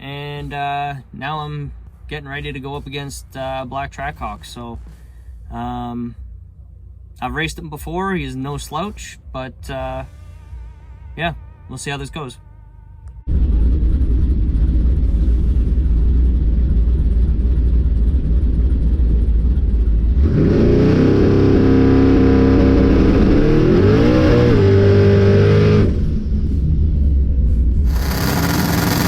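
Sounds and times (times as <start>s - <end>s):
car engine rumbling and revving: 0.0s - 29.0s.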